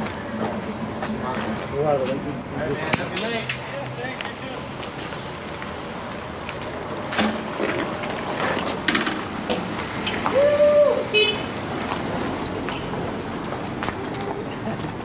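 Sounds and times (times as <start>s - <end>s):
wind and tyre noise: 0.0s - 15.0s.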